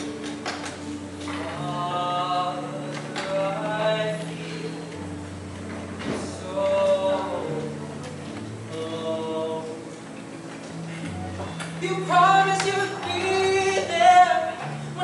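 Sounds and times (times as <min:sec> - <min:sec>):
young man singing ballad: 0:00.0 - 0:05.2, 0:06.0 - 0:10.1, 0:11.5 - 0:15.0.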